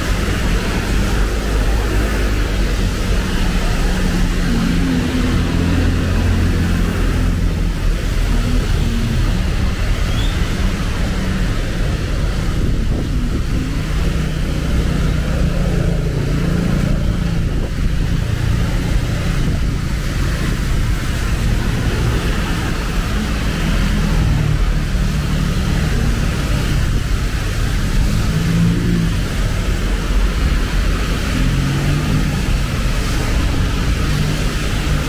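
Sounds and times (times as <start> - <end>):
hum of car and motorcycle engines: 0.0 - 35.0
tyres hissing on wet asphalt: 0.0 - 35.0.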